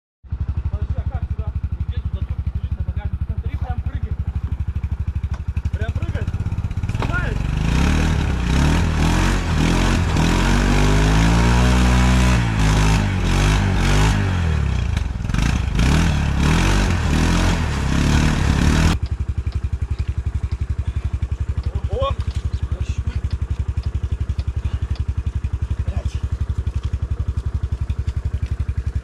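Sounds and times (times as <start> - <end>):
buggy engine revving: 0.3 - 29.0.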